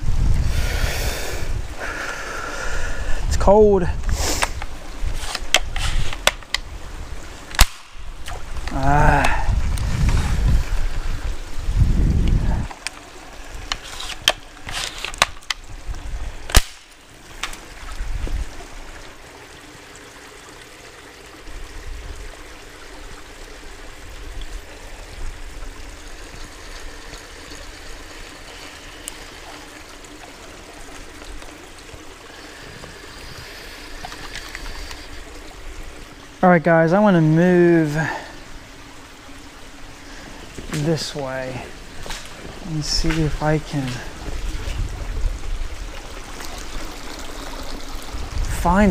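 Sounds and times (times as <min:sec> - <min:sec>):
creek trickling: 0:00.0 - 0:48.9.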